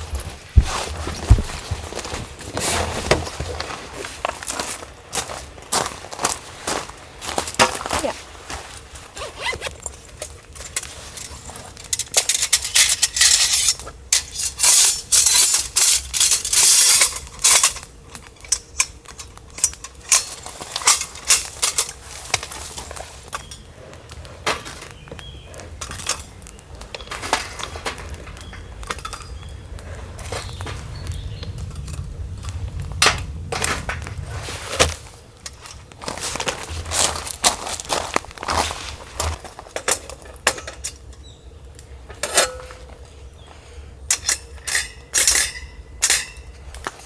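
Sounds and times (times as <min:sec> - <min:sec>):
handling clicks and knocks: 0:00.0 - 0:04.6, 0:09.2 - 0:43.0
crackling rustling: 0:00.0 - 0:47.0.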